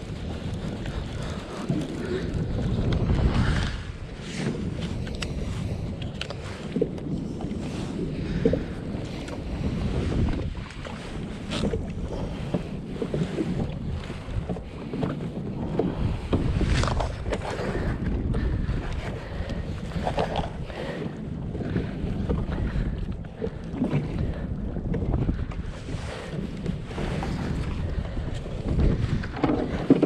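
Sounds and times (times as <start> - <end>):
water sloshing around kayak: 0.0 - 30.0
wind buffeting microphone: 0.0 - 30.0.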